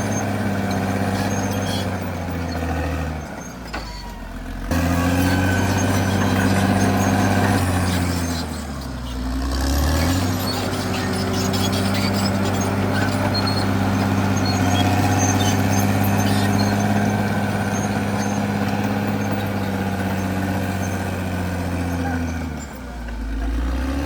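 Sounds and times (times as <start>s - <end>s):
bulldozer diesel engine droning: 0.0s - 24.0s.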